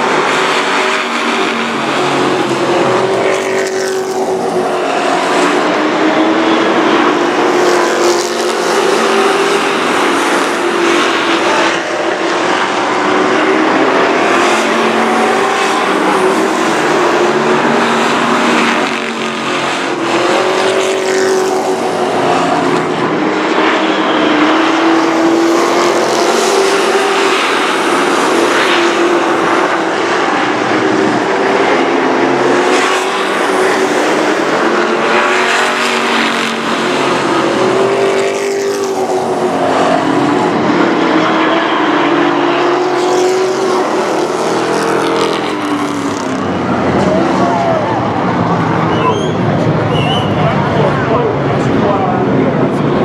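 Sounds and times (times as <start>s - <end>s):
race truck engines passing by: 0.0s - 53.0s.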